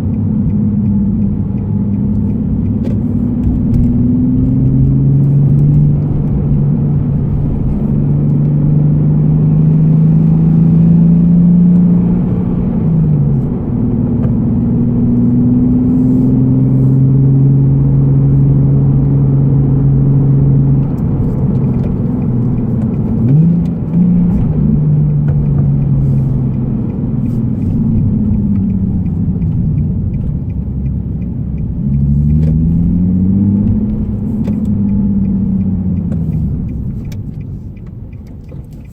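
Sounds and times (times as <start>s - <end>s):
car engine heard from cabin: 0.0s - 38.9s.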